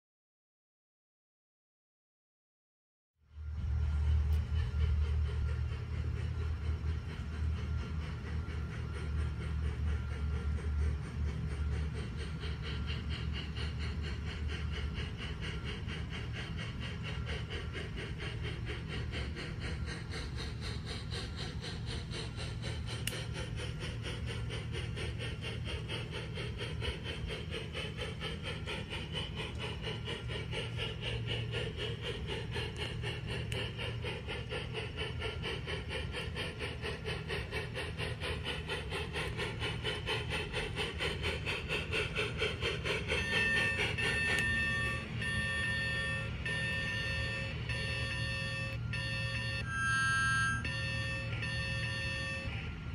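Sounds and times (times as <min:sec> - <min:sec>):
model train wheels clicking on rails: 0:03.3 - 0:52.9.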